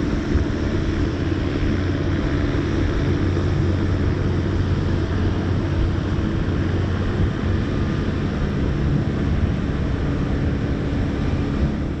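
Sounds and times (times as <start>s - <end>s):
hovercraft engine drone: 0.0s - 12.0s.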